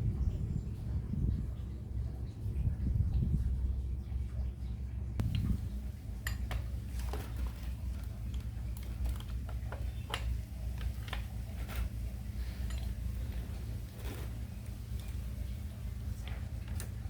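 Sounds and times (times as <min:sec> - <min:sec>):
compressor droning: 0:00.0 - 0:17.0.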